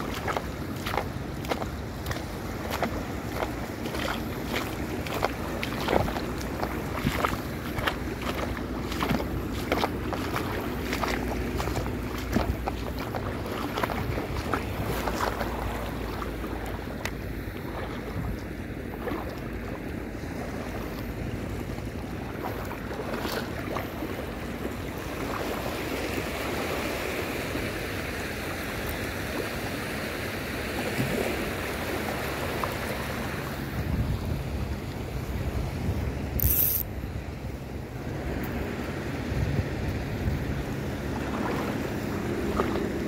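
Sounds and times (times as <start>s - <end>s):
wind buffeting microphone: 0.0s - 25.0s, 33.5s - 43.0s
waves breaking on shore: 0.0s - 43.0s.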